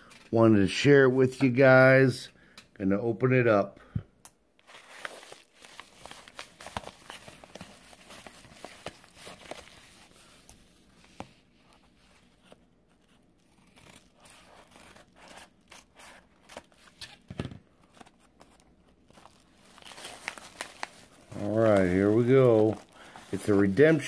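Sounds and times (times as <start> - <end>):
paper crinkling and rustling: 4.6 - 24.0.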